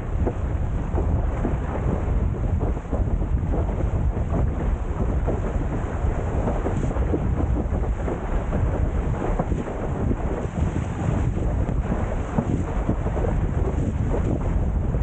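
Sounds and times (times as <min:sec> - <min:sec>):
water rushing and splashing: 0:00.0 - 0:15.0
wind rumbling on microphone: 0:00.0 - 0:15.0.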